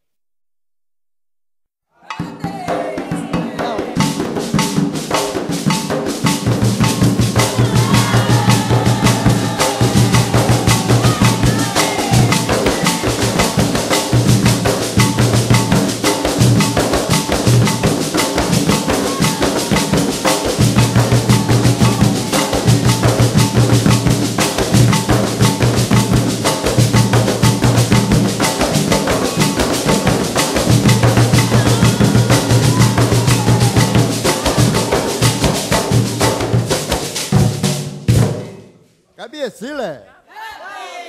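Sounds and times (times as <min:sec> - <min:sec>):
fast dense drumming: 0:02.1 - 0:38.5.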